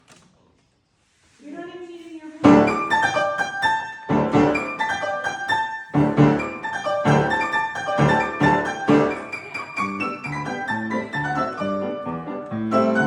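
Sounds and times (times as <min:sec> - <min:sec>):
piano playing a simple tune: 0:02.4 - 0:13.0.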